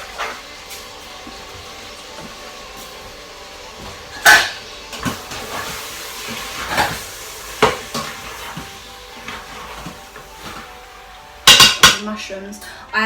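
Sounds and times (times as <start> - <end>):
utensils and dishes clattering: 0.0 - 12.8.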